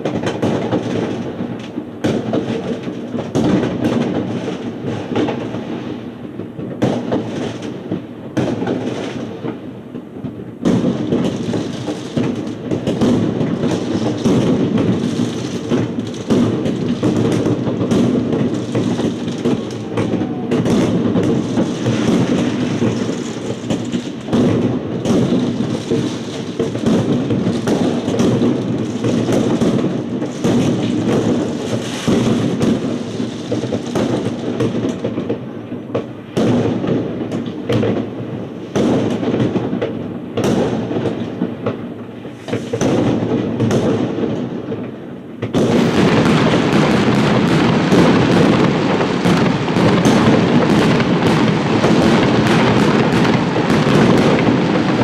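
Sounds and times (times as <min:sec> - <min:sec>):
firework crackles: 0:00.0 - 0:55.0
fireworks exploding: 0:00.0 - 0:55.0.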